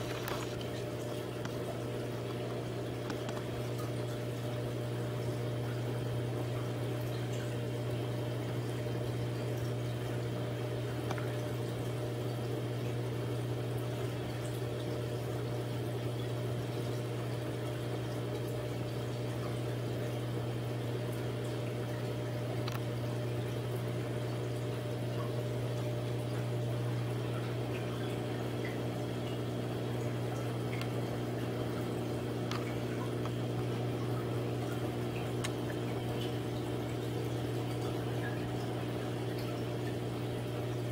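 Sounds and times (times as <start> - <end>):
water pump humming: 0.0 - 40.9
water trickling and bubbling: 0.0 - 40.9.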